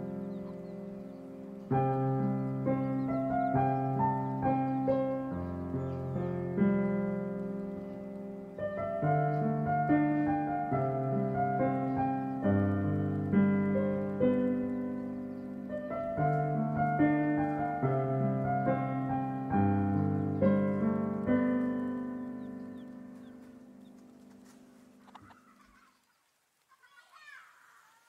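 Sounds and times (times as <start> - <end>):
solo piano: 0.0 - 25.0.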